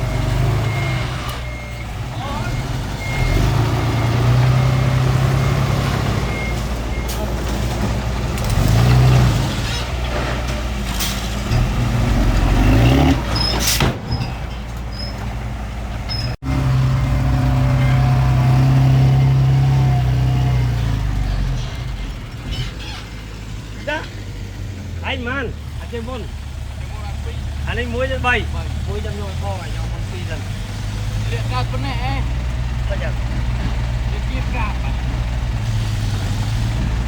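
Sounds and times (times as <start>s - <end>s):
heavy diesel engine revving: 0.0s - 13.7s, 15.5s - 37.0s.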